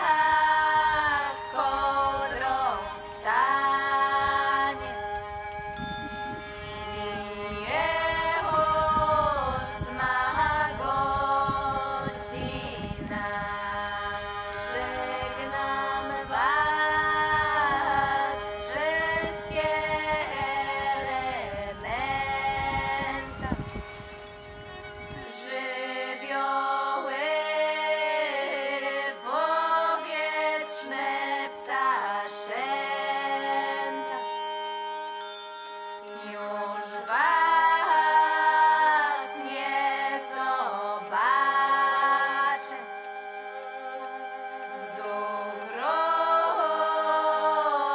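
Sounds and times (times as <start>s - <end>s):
unaccompanied singing: 0.0s - 5.4s, 6.8s - 24.1s, 25.1s - 34.4s, 36.1s - 47.9s
steady musical drone: 0.0s - 47.9s.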